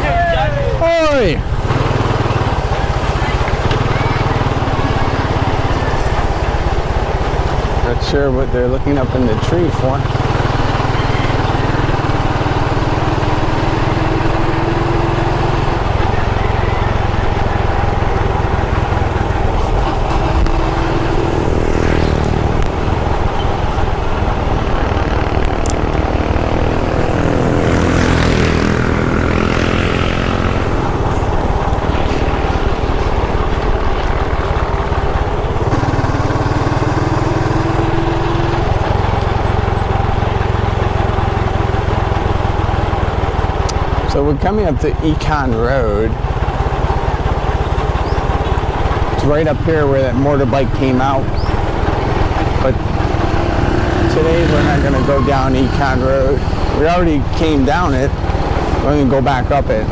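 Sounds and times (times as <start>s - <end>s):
motorbike engine running: 0.0s - 59.9s.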